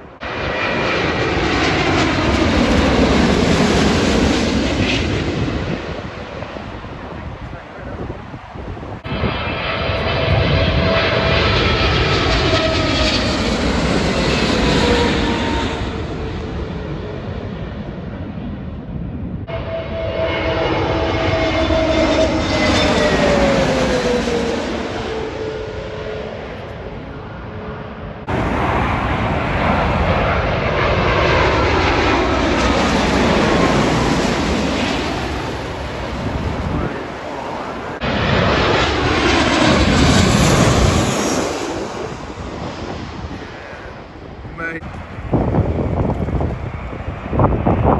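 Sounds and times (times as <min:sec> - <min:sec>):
jet airliner engine roar: 0:00.0 - 0:47.9.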